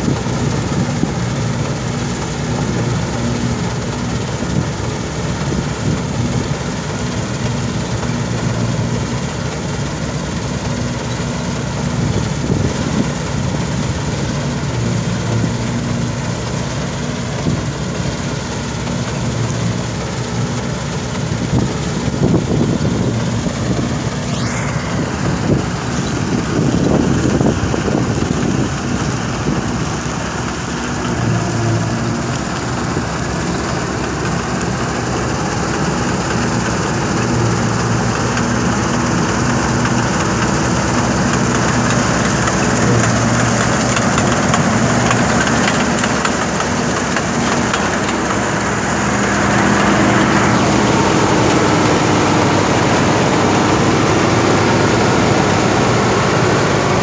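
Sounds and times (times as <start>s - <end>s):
combine harvester engine drone: 0.0s - 57.0s
threshing machinery rushing: 0.0s - 57.0s.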